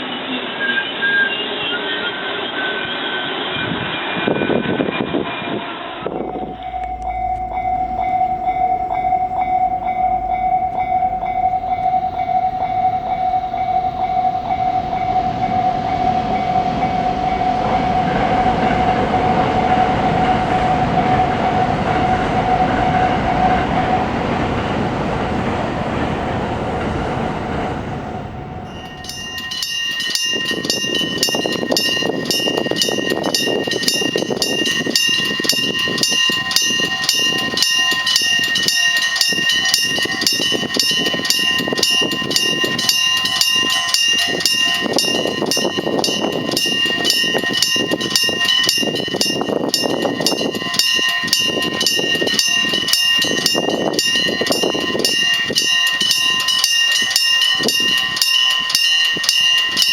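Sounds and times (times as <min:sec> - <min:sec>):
train passing close by: 0:00.0 - 0:59.9
level crossing bell ringing: 0:05.9 - 0:24.5, 0:28.6 - 0:59.9.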